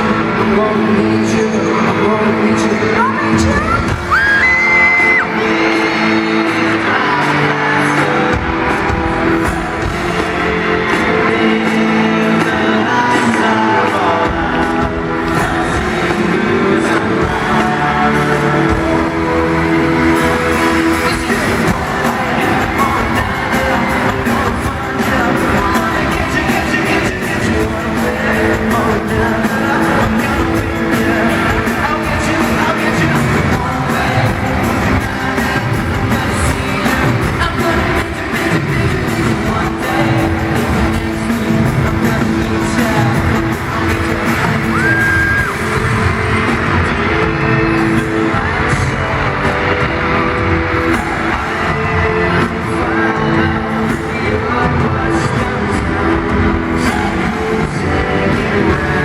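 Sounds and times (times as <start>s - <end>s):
live pop band with singing: 0.0s - 59.0s
steady drum beat: 3.0s - 59.0s.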